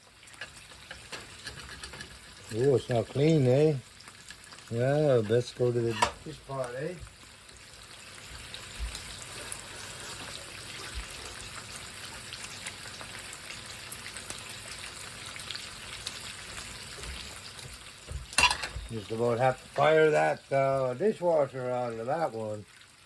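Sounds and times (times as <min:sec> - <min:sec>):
water running from a tap: 0:00.0 - 0:23.0.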